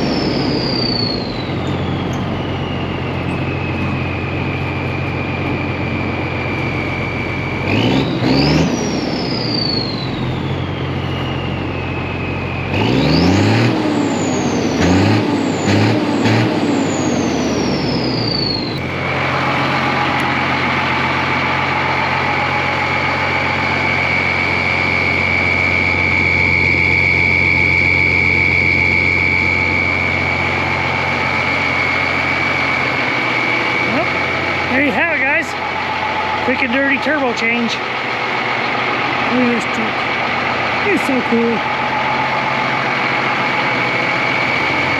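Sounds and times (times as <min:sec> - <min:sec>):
turbo whistle: 0:00.0 - 0:37.6, 0:38.6 - 0:44.9
diesel truck engine idling: 0:00.0 - 0:44.9.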